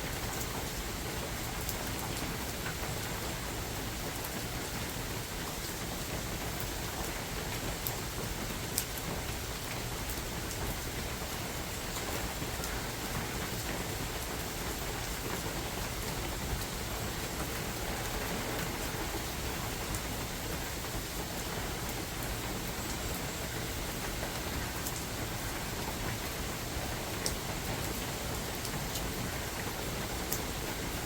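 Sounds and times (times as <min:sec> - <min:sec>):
rain falling in forest: 0:00.0 - 0:31.0
ticks of nearby raindrops: 0:00.1 - 0:31.0.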